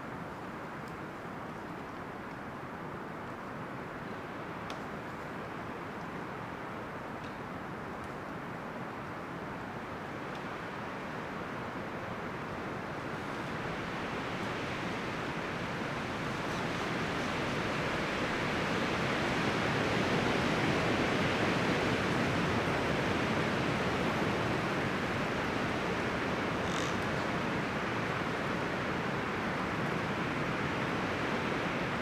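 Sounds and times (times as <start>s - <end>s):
wind rustling tree leaves: 0.0s - 32.0s.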